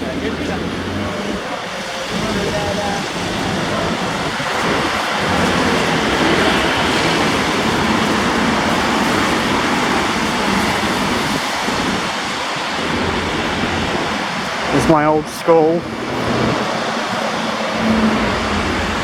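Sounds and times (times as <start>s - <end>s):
passing road traffic: 0.0s - 19.0s.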